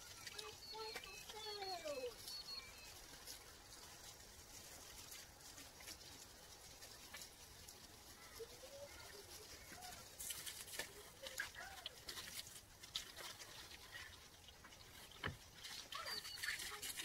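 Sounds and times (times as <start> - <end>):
hose spraying water on shrubs: 0.0 - 17.0.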